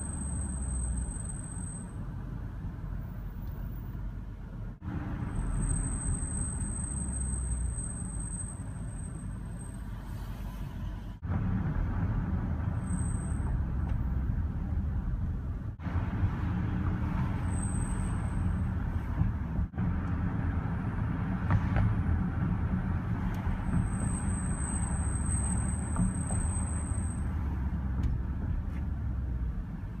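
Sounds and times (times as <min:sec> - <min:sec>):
brakes squealing: 0:00.0 - 0:04.0, 0:04.8 - 0:20.1, 0:23.1 - 0:30.0
tyre and road noise: 0:00.0 - 0:30.0.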